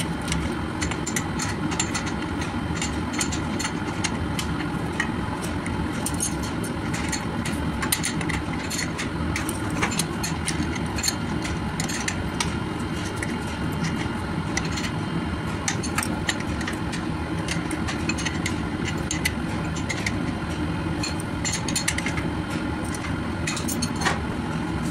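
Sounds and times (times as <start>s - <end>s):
machinery hum: 0.0s - 24.9s.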